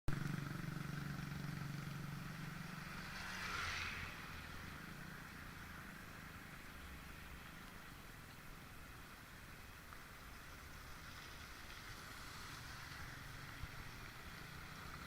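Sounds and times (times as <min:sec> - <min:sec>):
motor vehicle engine humming: 0:00.1 - 0:15.0.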